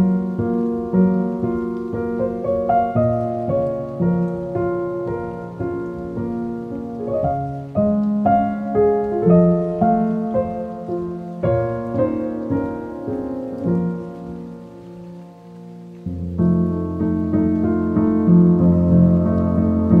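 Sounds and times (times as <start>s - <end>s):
slow classical piano piece: 0.0s - 20.0s
soft rain: 0.0s - 20.0s.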